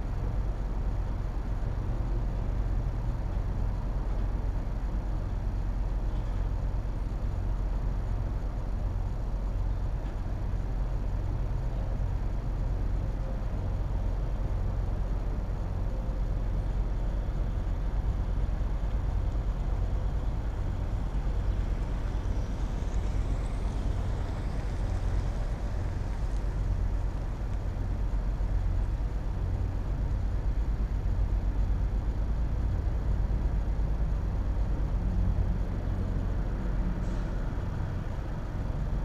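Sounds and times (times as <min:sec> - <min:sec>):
idling traffic engine rumble: 0:00.0 - 0:39.0.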